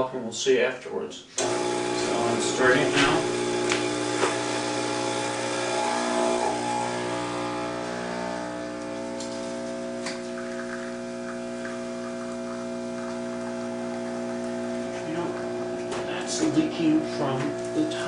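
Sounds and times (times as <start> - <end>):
espresso machine pump humming: 1.4 - 18.0.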